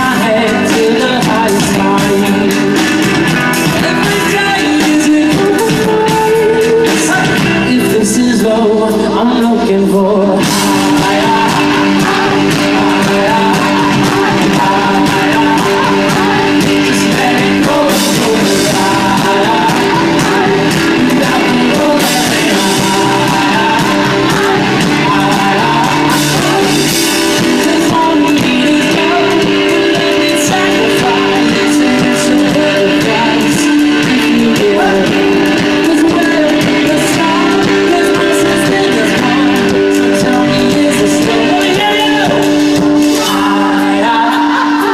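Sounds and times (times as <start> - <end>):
drums: 0.0 - 44.9
electric guitars: 0.0 - 44.9
male lead vocal: 0.0 - 44.9.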